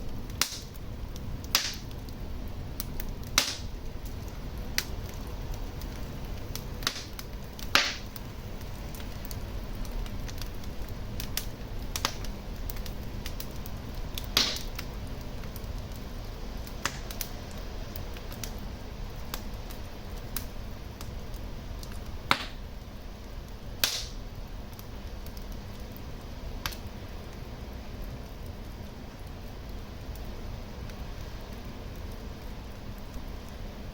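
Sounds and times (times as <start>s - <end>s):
fire crackles and pops: 0.0s - 33.9s
low rumble of flames: 0.0s - 33.9s.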